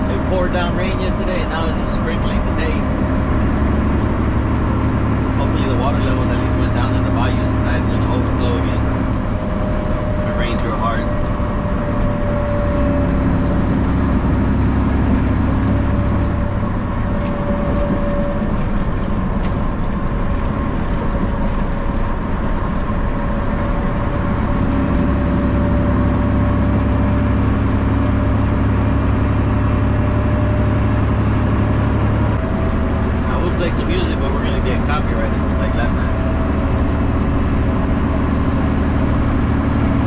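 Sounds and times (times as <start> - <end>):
truck diesel exhaust drone: 0.0 - 40.0.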